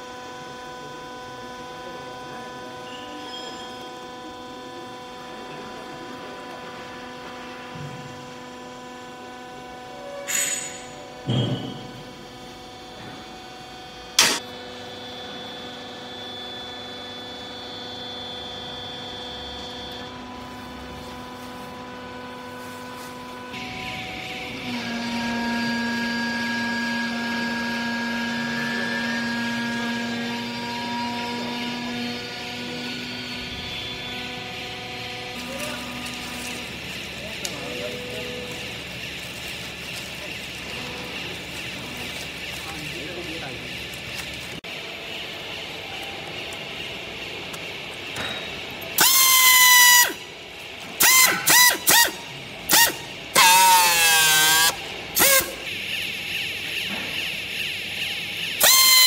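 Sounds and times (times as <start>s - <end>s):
baler power unit humming: 0.0s - 59.0s.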